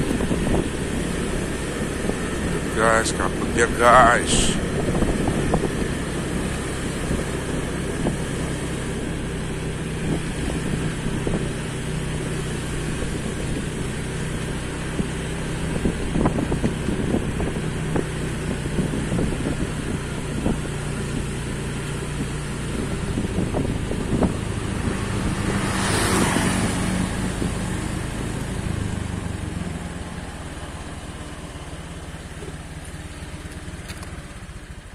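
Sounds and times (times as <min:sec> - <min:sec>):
wind rushing over microphone: 0:00.0 - 0:29.8
vehicle engine running: 0:00.0 - 0:34.9.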